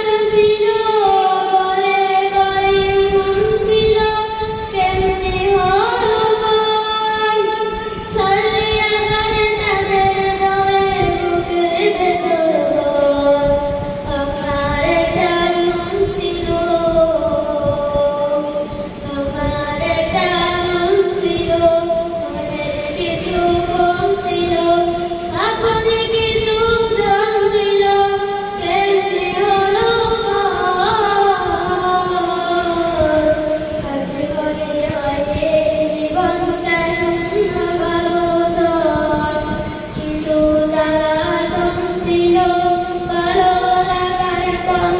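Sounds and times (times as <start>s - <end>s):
girl singing into microphone: 0.0s - 44.9s.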